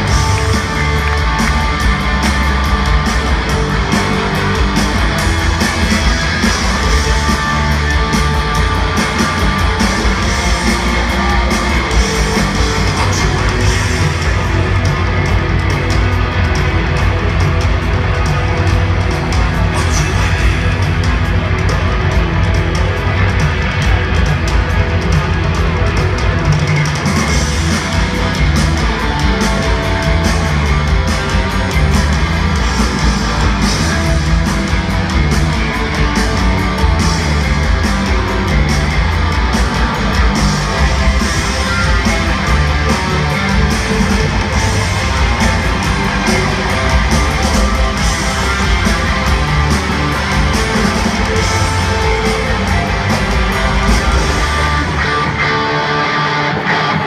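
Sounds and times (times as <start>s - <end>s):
bass guitar: 0.0s - 57.0s
distorted electric guitars: 0.0s - 57.0s
drums: 0.0s - 57.0s.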